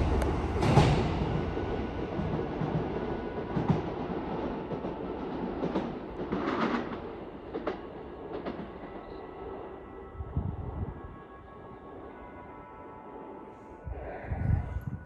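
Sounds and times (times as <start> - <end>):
train rumbling on tracks: 0.0 - 15.0.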